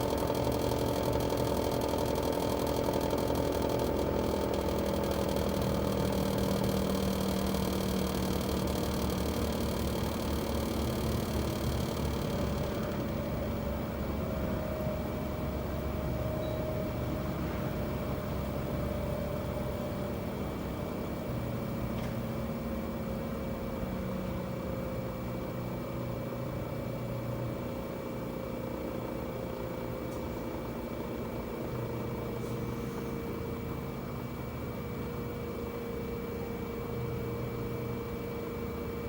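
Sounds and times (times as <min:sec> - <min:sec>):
air conditioner hum and whine: 0:00.0 - 0:39.0.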